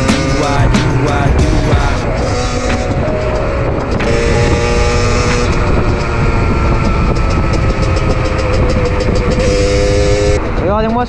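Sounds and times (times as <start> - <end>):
two-stroke motorcycle engine: 0.0 - 11.0
wind rumble on microphone: 0.0 - 11.0.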